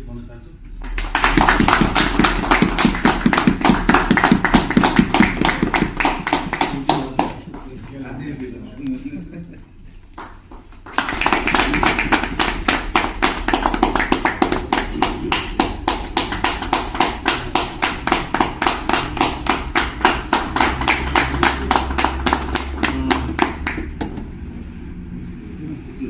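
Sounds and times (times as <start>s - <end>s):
group clapping in rhythm: 0.8s - 8.0s, 10.1s - 24.4s.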